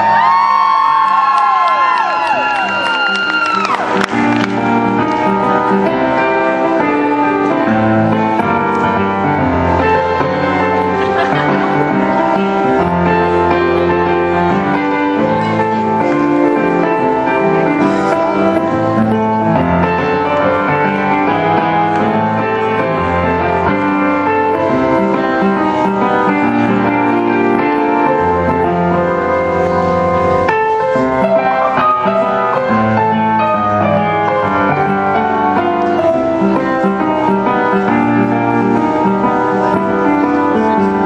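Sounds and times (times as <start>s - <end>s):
solo piano chords: 0.0s - 41.0s.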